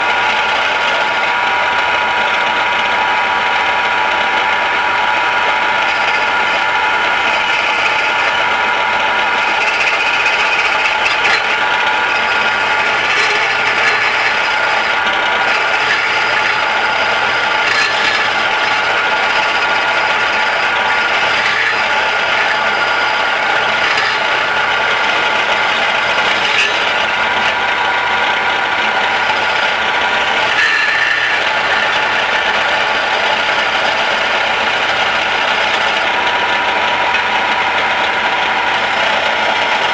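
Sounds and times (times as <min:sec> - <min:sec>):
turning tool scraping wood: 0:00.0 - 0:01.8, 0:04.7 - 0:39.9
wood lathe whining: 0:00.0 - 0:39.9.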